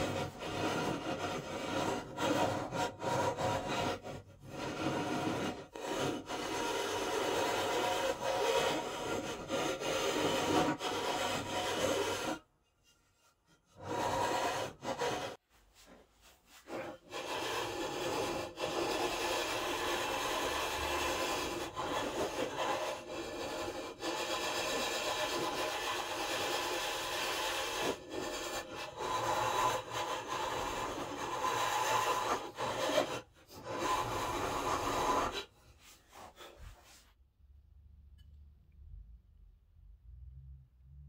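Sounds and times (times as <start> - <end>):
file rasping on wood: 0.0 - 15.4, 16.6 - 36.9.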